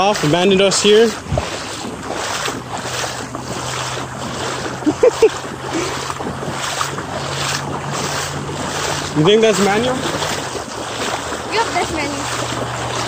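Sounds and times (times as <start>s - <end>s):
steady low hum: 0.0s - 13.0s
water sloshing: 0.0s - 13.0s
wind buffeting microphone: 0.0s - 13.0s.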